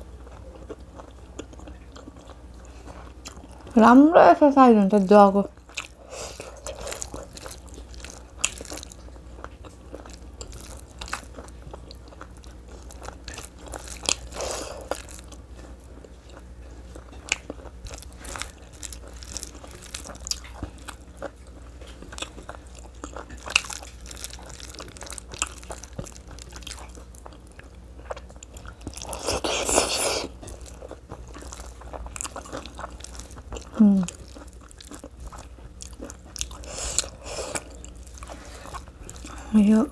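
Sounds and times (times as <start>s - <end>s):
chewing tough meat: 0.0s - 3.8s, 5.5s - 39.9s.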